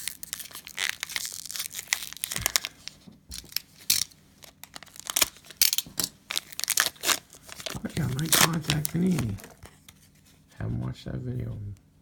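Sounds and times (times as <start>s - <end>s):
plastic wrapper tearing and crinkling: 0.0s - 9.7s.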